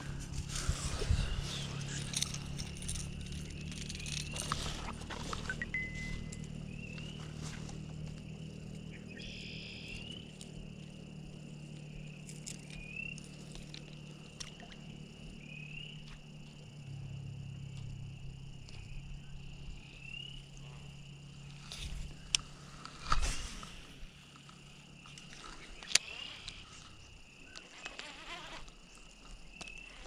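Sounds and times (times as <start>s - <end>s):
low steady rumble: 0.0s - 27.4s.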